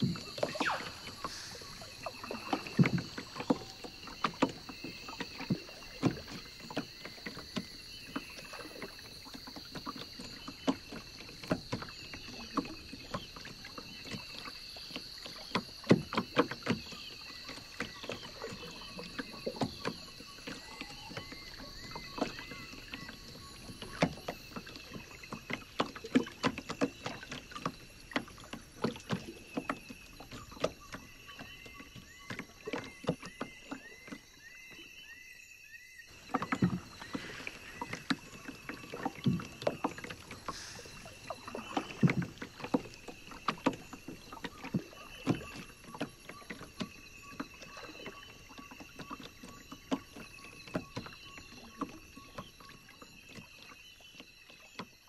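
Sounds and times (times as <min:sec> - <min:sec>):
paddle splashing in water: 0:00.0 - 0:55.0.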